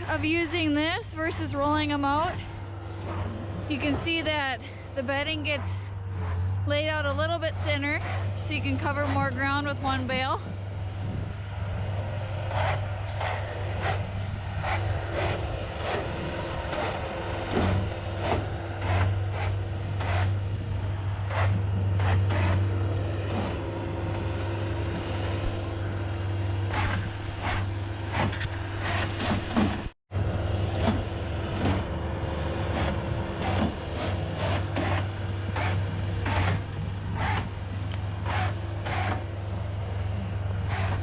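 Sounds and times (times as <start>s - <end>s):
diesel engine running under load: 0.0s - 41.0s.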